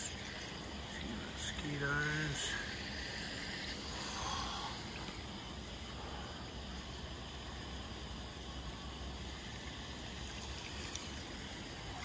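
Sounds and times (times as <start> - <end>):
water trickling into a drain: 0.0 - 12.0.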